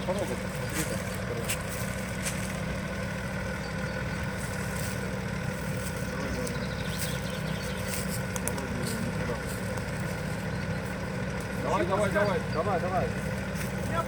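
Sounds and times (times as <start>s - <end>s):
engine idling low rumble: 0.0s - 14.0s.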